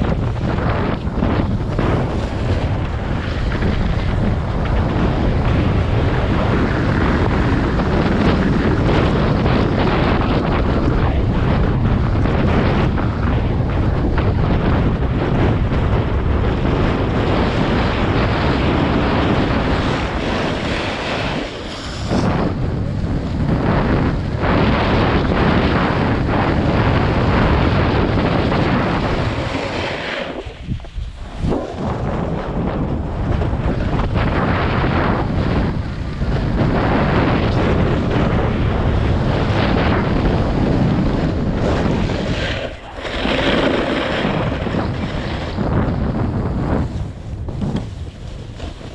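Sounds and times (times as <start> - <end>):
skis sliding over packed snow: 0.0 - 48.9
wind buffeting microphone: 0.0 - 48.9.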